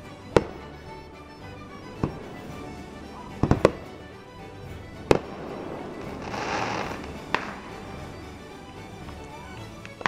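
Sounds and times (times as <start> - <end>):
faint music: 0.0 - 10.0
fireworks bangs: 0.0 - 10.0.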